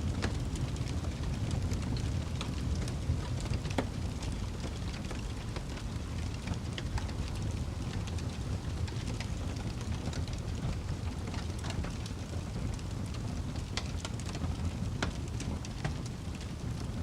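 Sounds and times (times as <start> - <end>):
burning wood crackling and popping: 0.0 - 17.0
campfire flames rumbling: 0.0 - 17.0.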